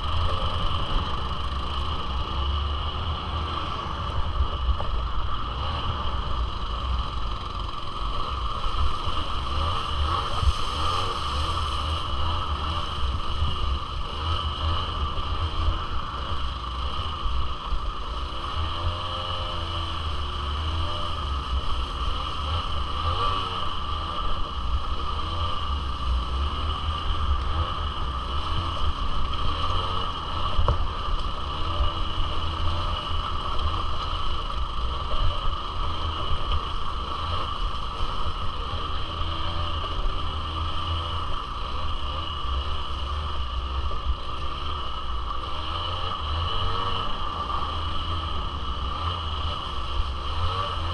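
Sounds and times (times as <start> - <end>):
atv engine revving: 0.0 - 50.9
heavy low rumble: 0.0 - 50.9.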